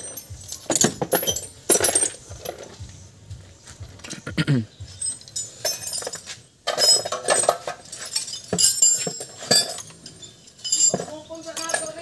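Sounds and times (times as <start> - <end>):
metal engine parts clinking: 0.0 - 3.0, 4.8 - 12.0.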